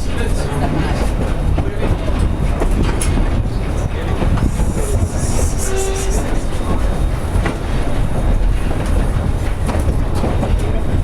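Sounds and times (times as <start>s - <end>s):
steam train rumbling: 0.0s - 11.0s.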